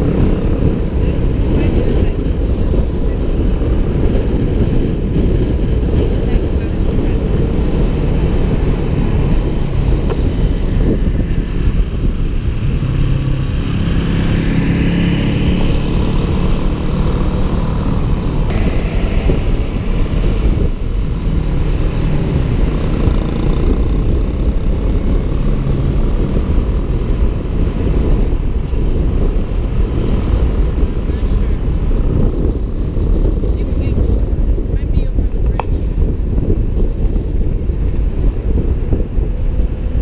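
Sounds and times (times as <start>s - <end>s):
car engine humming: 0.0s - 40.0s
road and wind noise: 0.0s - 40.0s.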